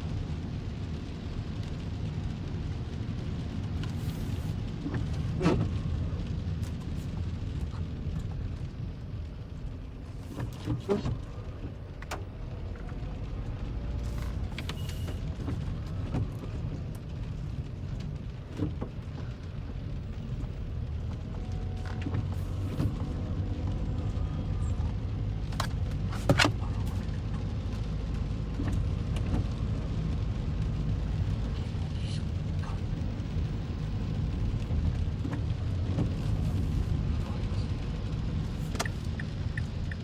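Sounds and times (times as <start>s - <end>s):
car driving rumble: 0.0s - 40.0s.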